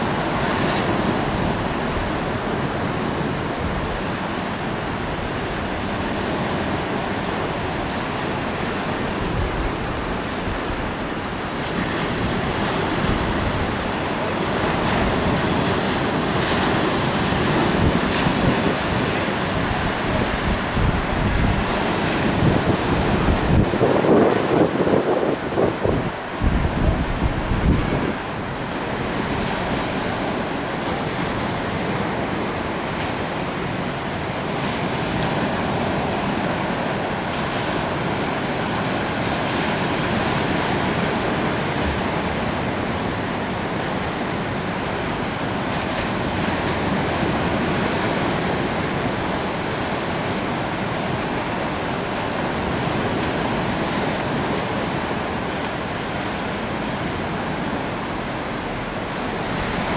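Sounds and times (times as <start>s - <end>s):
small waves breaking: 0.0s - 59.9s
wind gusts: 0.0s - 59.9s.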